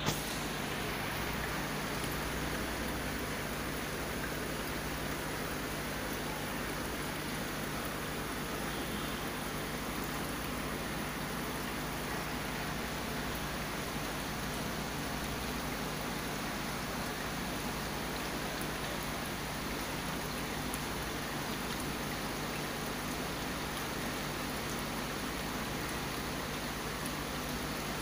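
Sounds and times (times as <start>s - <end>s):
aquarium water bubbling: 0.0s - 28.0s.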